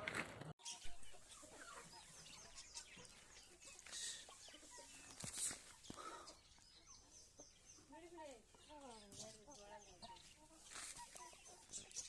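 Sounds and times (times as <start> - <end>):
chicks peeping: 0.6 - 12.0.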